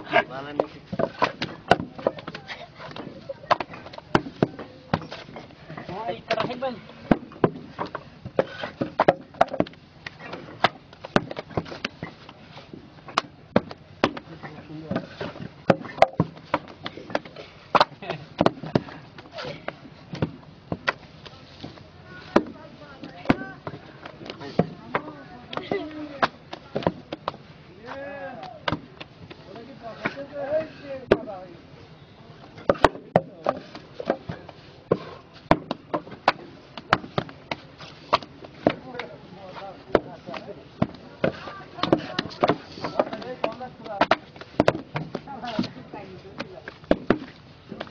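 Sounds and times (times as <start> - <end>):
paving blocks knocking: 0.0 - 31.4, 32.4 - 47.9.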